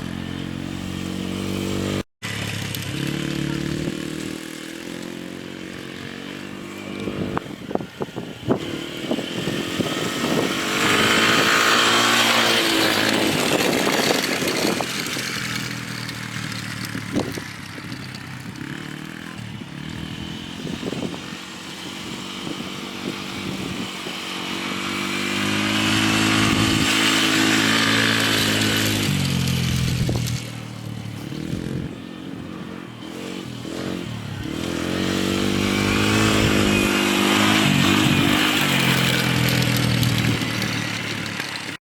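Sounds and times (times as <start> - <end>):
quad engine revving: 0.0 - 41.8.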